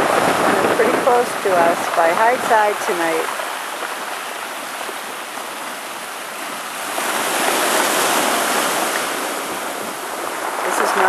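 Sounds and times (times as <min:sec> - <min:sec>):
waves washing against shore: 0:00.0 - 0:11.0.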